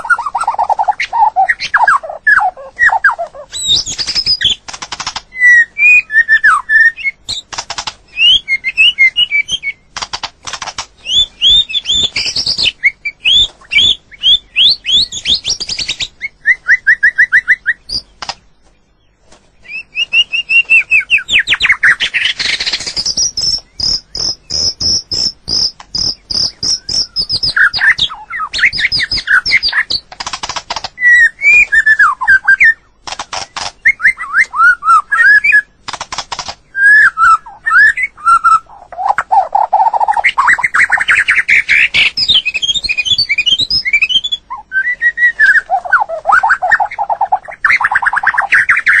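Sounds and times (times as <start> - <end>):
bird singing whistled phrases: 0.0 - 4.6, 5.3 - 7.4, 8.1 - 9.8, 11.0 - 18.1, 19.6 - 30.0, 31.0 - 32.8, 33.8 - 35.7, 36.7 - 49.0.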